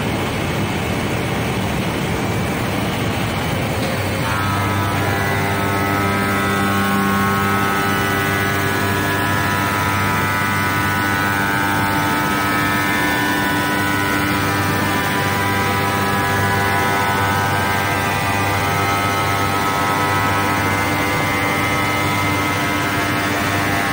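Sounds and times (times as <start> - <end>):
grinding wheel whine on glass: 0.0 - 23.9
low machine hum: 0.0 - 23.9.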